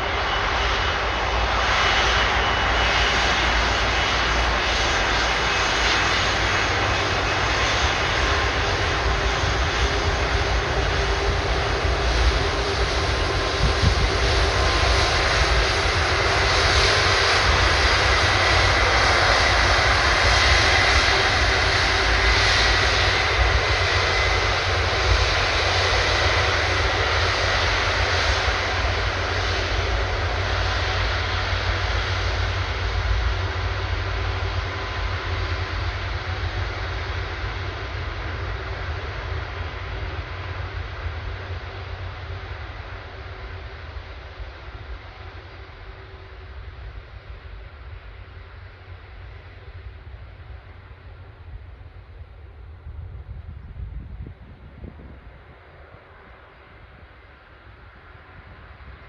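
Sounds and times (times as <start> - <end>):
faint high engine whine: 0.0 - 59.0
jet engines roaring: 0.0 - 59.0.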